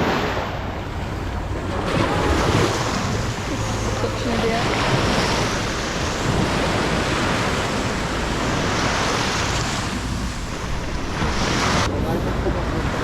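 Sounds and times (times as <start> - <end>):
sea surf washing in: 0.0 - 13.0
wind buffeting microphone: 0.0 - 13.0.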